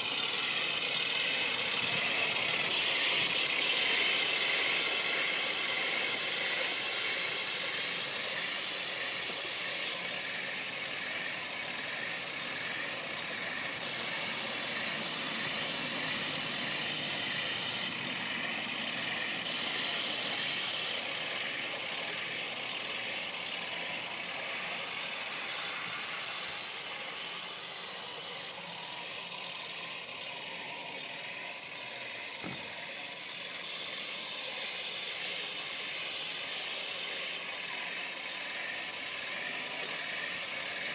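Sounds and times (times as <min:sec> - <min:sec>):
toy tank tracks running: 0:00.0 - 0:40.9.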